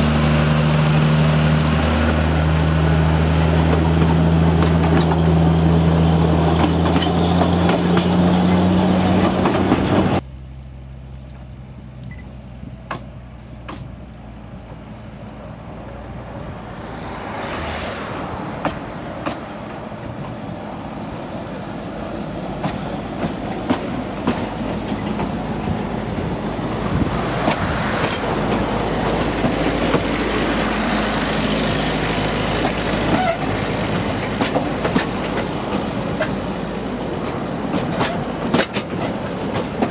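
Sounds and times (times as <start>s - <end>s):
train wheels clicking over rail joints: 0.0s - 10.2s, 11.2s - 15.0s, 18.3s - 39.9s
train engine hum: 0.0s - 39.9s.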